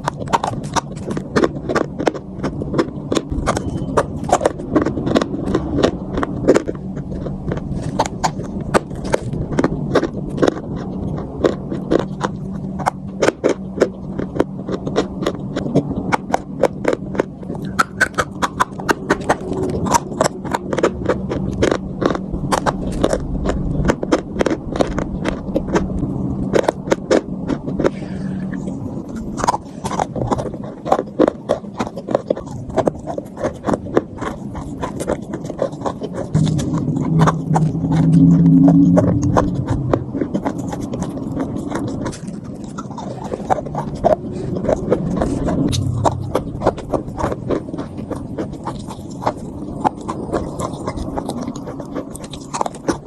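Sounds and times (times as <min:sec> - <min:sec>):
chewing crunchy chalk: 0:00.0 - 0:53.0
steady low hum: 0:00.0 - 0:53.0.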